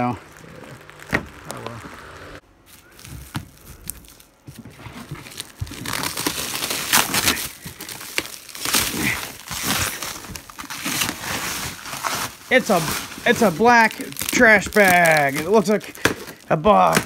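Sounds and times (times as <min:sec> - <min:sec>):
plastic stretch wrap crinkling: 0:00.0 - 0:17.0.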